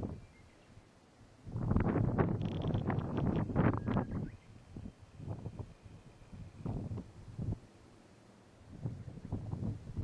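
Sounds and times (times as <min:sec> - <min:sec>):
wind buffeting microphone: 0:00.0 - 0:00.4, 0:01.4 - 0:07.7, 0:08.6 - 0:10.0.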